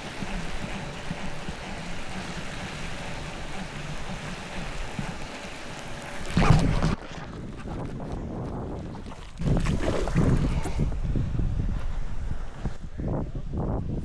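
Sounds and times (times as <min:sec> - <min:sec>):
steady low hum: 0:00.0 - 0:14.0
wind buffeting microphone: 0:00.0 - 0:14.0.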